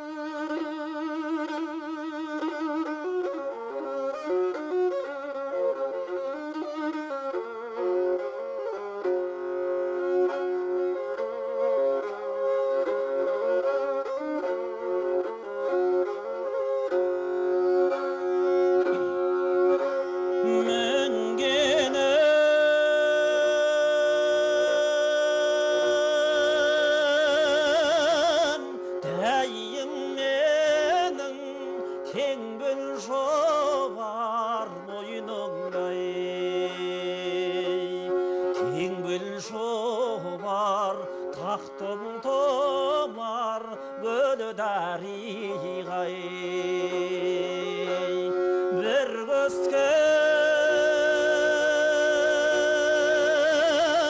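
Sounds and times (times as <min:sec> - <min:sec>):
bowed string instrument melody: 0:00.0 - 0:54.0.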